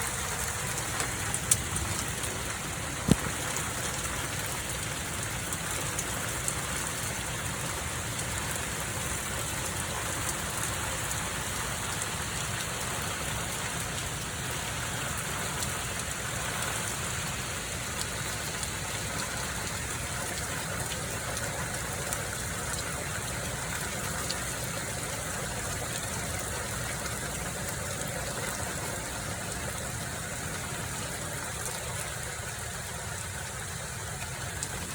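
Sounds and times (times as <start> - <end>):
rain and hail hissing: 0.0 - 34.9.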